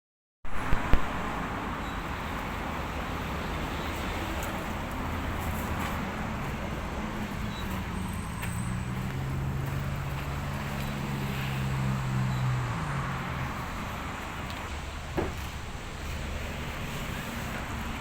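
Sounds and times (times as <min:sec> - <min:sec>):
truck engine idling: 0:01.5 - 0:18.0.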